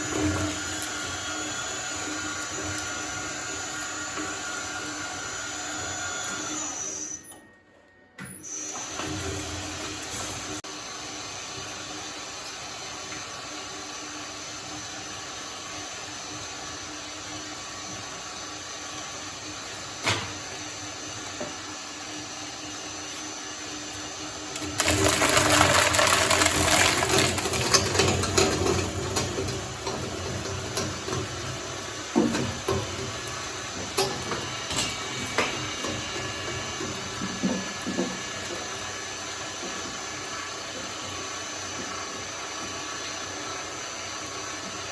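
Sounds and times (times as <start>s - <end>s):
shredder running: 0.0s - 7.2s, 8.5s - 44.9s.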